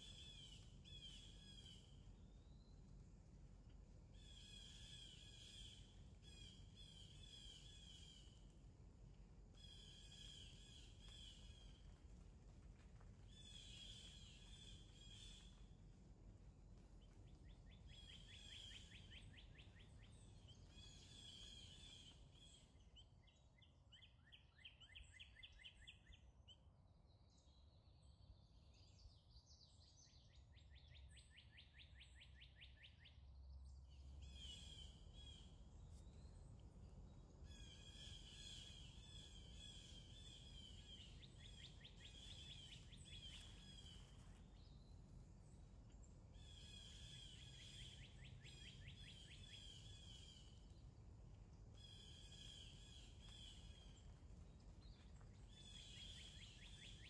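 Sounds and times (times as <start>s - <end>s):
low steady background rumble: 0.0s - 57.0s.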